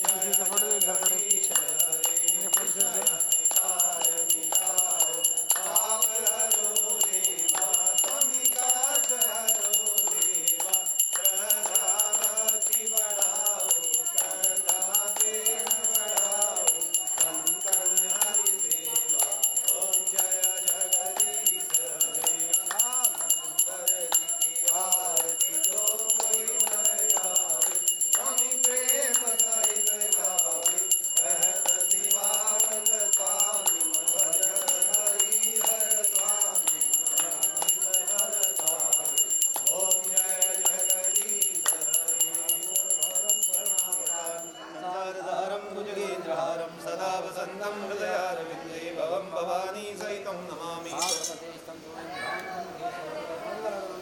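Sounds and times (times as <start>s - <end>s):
hand bell ringing rapidly: 0.0s - 44.6s.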